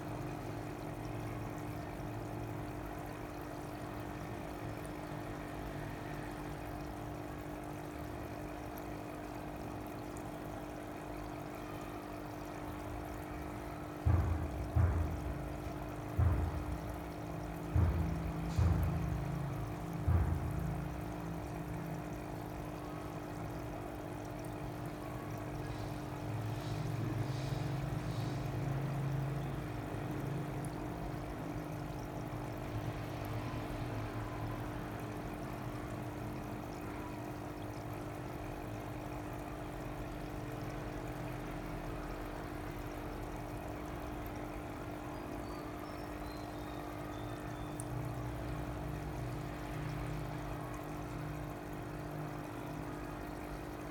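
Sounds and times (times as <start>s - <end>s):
electrical pump hum: 0.0s - 53.9s
water trickling into tanks: 0.0s - 53.9s.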